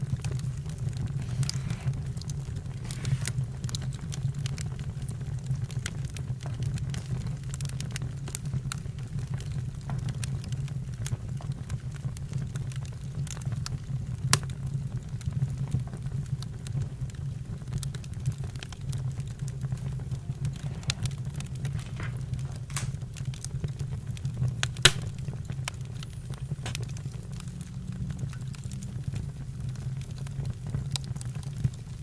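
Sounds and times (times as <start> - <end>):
campfire crackling: 0.0 - 32.0.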